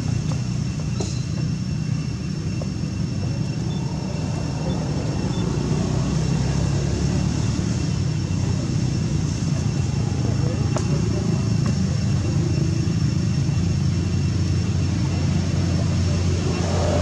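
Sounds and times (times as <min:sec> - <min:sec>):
steady low rumble: 0:00.0 - 0:17.0
faint high steady tones: 0:00.1 - 0:17.0.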